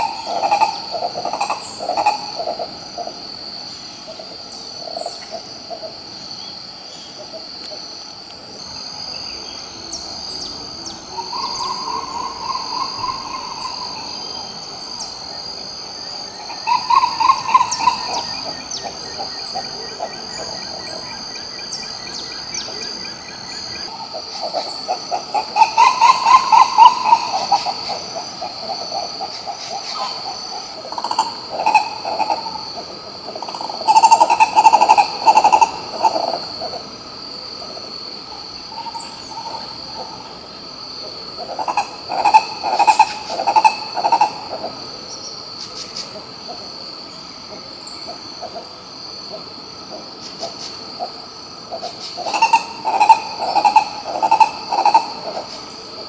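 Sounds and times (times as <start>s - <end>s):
ibis calling with low notes: 0.0s - 3.2s, 3.9s - 46.8s, 47.4s - 56.0s
high insect drone: 0.0s - 56.0s.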